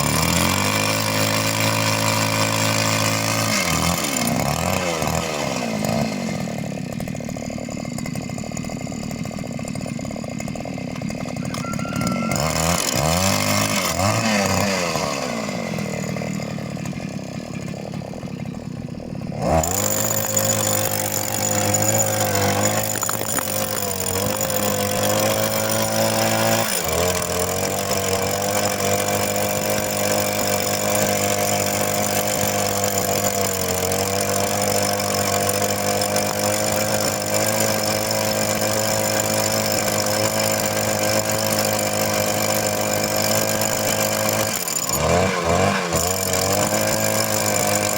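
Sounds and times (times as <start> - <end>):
rock drill engine revving: 0.0 - 47.9.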